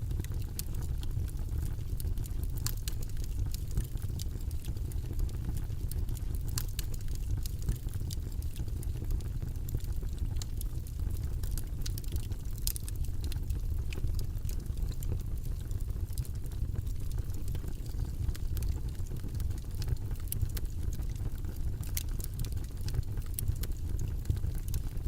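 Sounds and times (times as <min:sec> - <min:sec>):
low rumbling white noise: 0:00.0 - 0:25.0.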